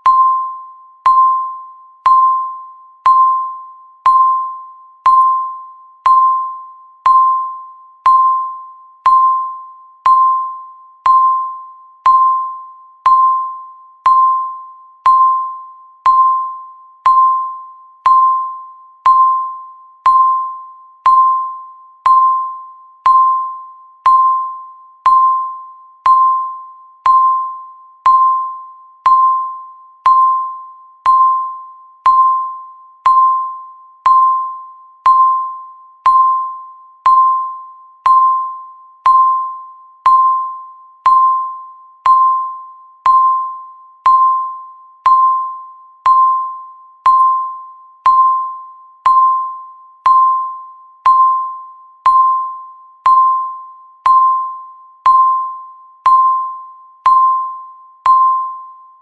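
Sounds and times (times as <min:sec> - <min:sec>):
countdown timer beeps: 0:00.0 - 0:59.0.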